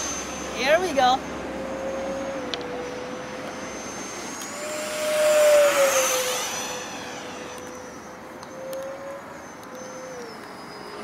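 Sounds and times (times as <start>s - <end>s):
model jet fan whining: 0.0s - 11.0s.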